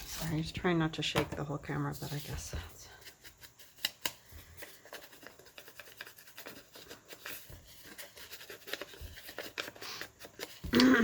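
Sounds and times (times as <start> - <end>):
paper rustling: 1.9 - 10.8.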